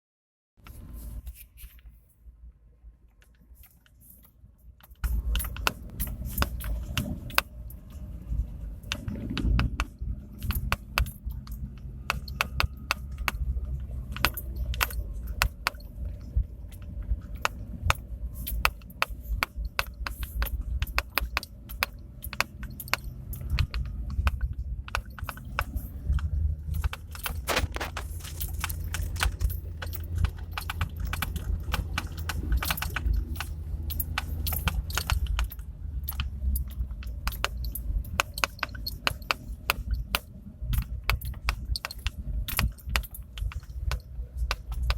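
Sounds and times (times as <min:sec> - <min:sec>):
car rumbling: 0:00.6 - 0:44.9
car knocks rattles and creaks: 0:03.3 - 0:44.9.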